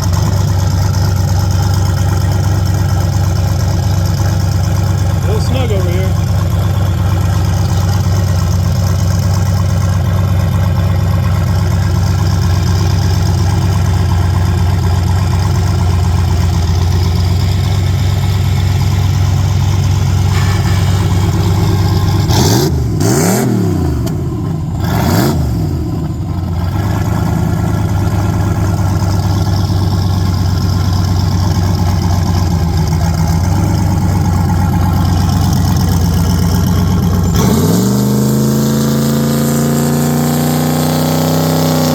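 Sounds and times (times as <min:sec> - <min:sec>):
pickup engine idling and revving: 0:00.0 - 0:41.9.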